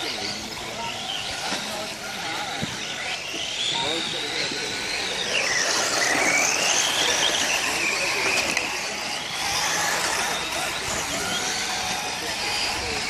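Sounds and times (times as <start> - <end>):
model racing car motors whining: 0.0 - 13.0.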